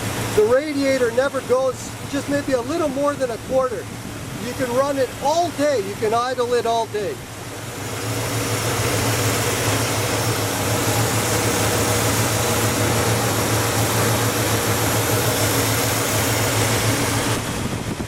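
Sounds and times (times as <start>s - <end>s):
car engine idling: 0.0s - 18.0s
fan noise rushing air: 0.0s - 18.0s.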